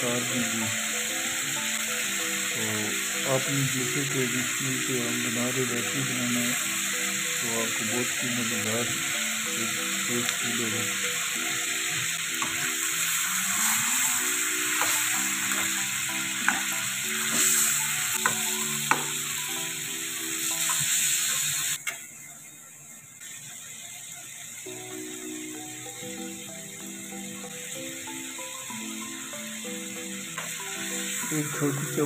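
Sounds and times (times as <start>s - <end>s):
food sizzling in oil: 0.0s - 32.0s.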